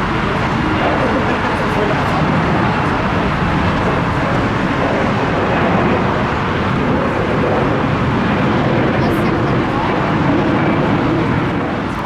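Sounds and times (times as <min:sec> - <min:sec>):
jet engine rush: 0:00.0 - 0:12.0.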